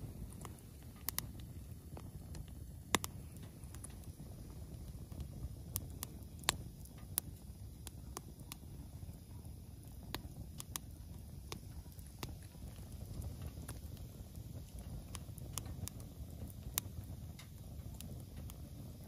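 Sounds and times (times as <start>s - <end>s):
firewood crackling and popping: 0.0s - 19.0s
low steady fire rumble: 0.0s - 19.0s.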